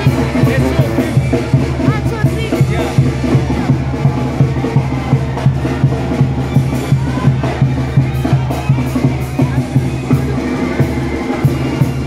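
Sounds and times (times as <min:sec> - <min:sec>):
steady drum beat: 0:00.0 - 0:12.0
street band playing: 0:00.0 - 0:12.0.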